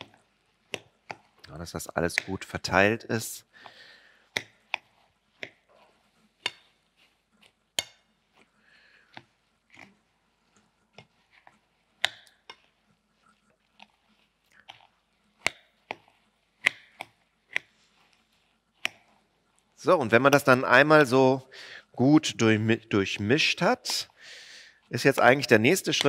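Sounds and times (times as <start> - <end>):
soft stirring: 0.0 - 26.0.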